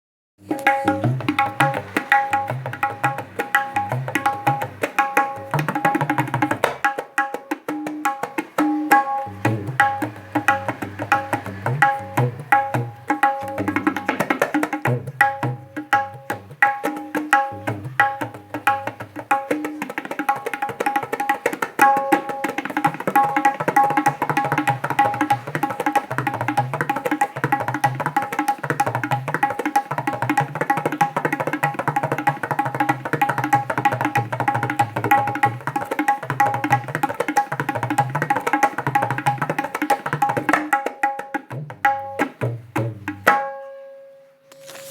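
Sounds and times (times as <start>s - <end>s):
tabla bass drum strokes: 0.4s - 44.9s
tabla treble drum ringing: 0.4s - 44.9s.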